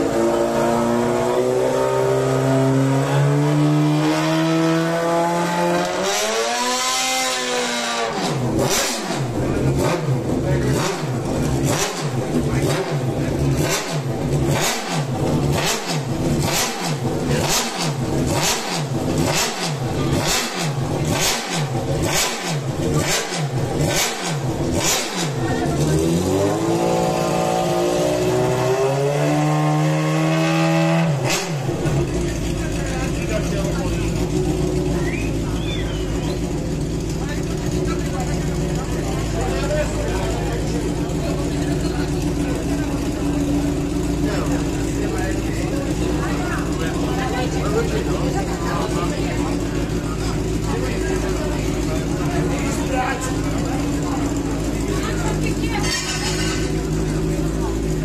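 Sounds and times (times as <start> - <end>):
motorcycle engine revving: 0.0 - 58.0
exhaust cracks: 3.9 - 26.7, 30.9 - 58.0.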